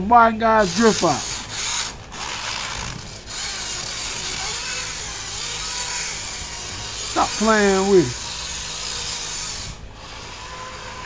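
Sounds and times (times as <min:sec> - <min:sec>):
small electric motor humming: 0:00.5 - 0:11.0.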